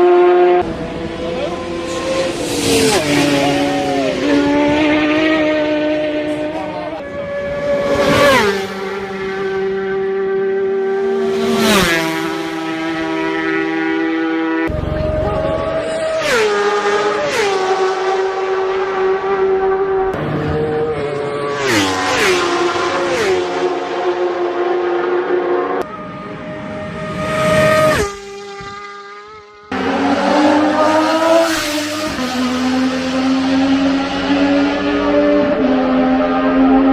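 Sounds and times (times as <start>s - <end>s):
racing motorcycles passing at speed: 0.0s - 36.9s.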